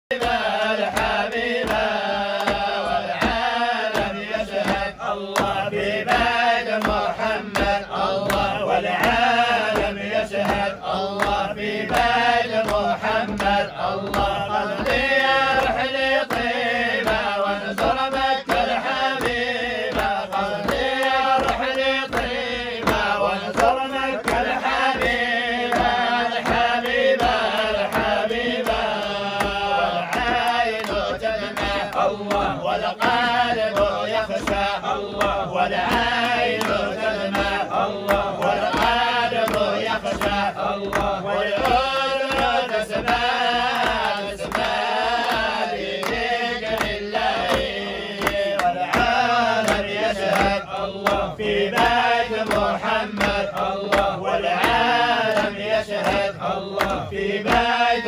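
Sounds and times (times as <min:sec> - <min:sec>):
men chanting together: 0:00.0 - 0:58.0
sharp rhythmic beats: 0:00.1 - 0:58.0.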